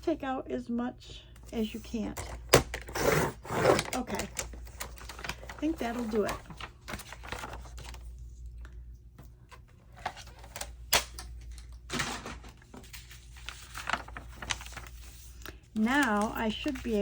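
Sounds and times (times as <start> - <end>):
paper rustling: 1.5 - 8.5, 9.6 - 17.0.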